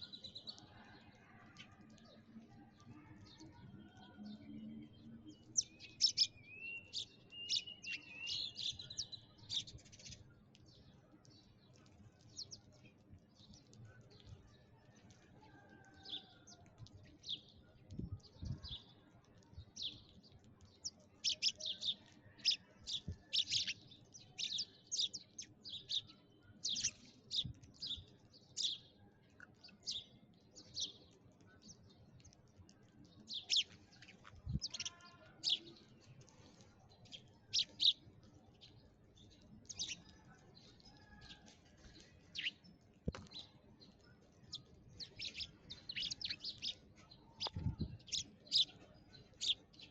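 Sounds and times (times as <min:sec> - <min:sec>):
sparrows chirping: 0:00.0 - 0:49.9.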